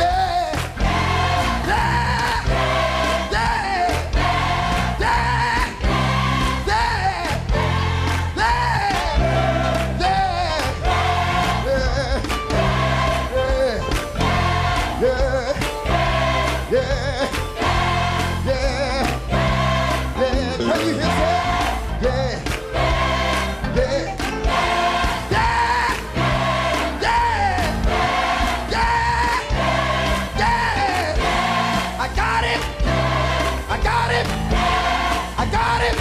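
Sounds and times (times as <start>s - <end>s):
gospel singing with band: 0.0s - 36.0s.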